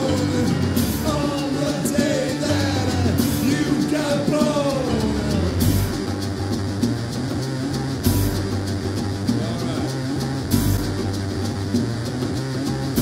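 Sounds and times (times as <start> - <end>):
rock band playing: 0.0 - 13.0
sliding melodic lines: 0.0 - 13.0.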